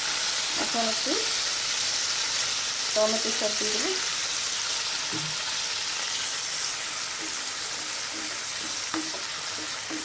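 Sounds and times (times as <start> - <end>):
vegetables sizzling in a frying pan: 0.0 - 10.0.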